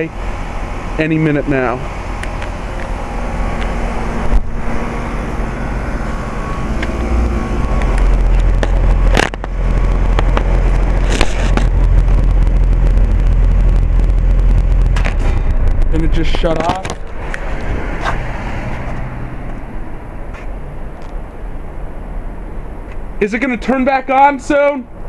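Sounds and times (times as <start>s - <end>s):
heat pump compressor hum: 0.0s - 23.2s
fan air rumbling over microphone: 0.0s - 25.0s.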